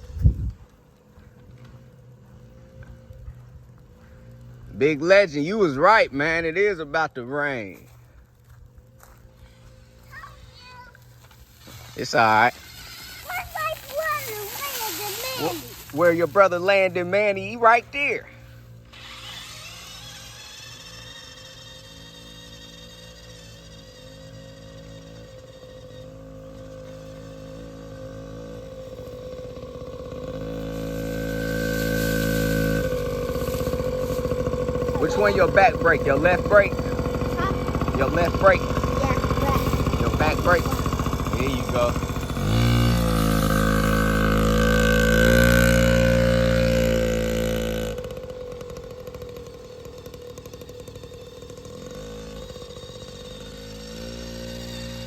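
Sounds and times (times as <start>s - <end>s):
two-stroke motorbike engine: 0.0s - 55.0s.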